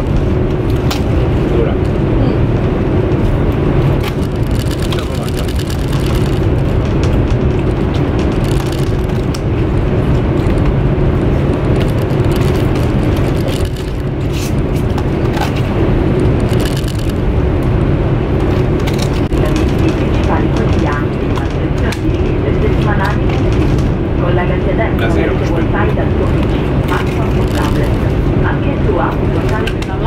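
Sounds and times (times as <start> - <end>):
train rumble inside carriage: 0.0 - 30.0.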